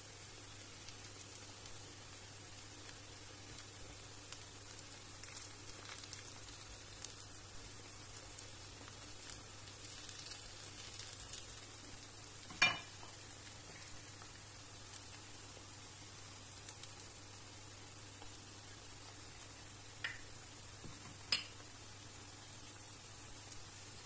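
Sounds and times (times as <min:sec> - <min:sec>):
fritters sizzling in oil: 0:00.0 - 0:24.0.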